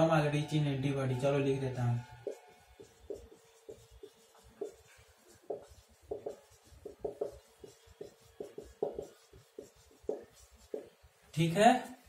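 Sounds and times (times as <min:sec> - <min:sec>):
marker writing on whiteboard: 0:01.2 - 0:11.5.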